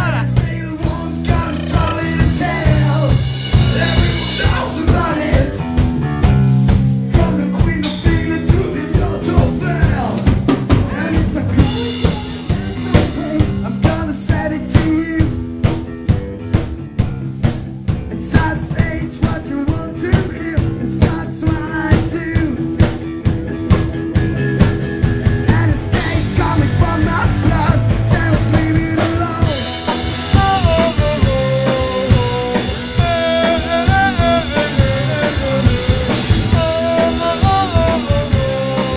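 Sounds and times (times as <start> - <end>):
rapid drum hits: 0.0 - 38.9
rock band playing: 0.0 - 38.9
wavering guitar lead line: 0.0 - 38.9.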